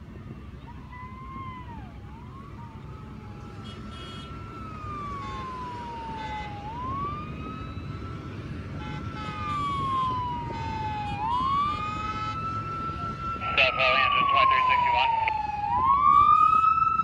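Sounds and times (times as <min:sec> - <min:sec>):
emergency vehicle siren wailing: 0:00.0 - 0:17.0
freeway traffic: 0:00.0 - 0:17.0
motorcycle engines rumbling: 0:00.1 - 0:17.0.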